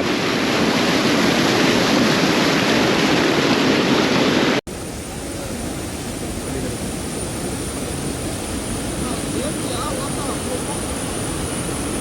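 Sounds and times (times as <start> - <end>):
quieter rush of water: 0.0 - 12.0.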